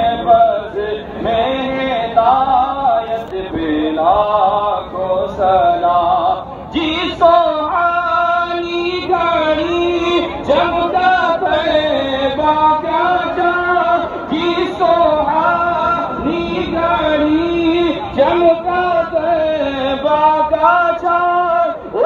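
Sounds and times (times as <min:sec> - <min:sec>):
man singing over loudspeaker: 0:00.0 - 0:22.0.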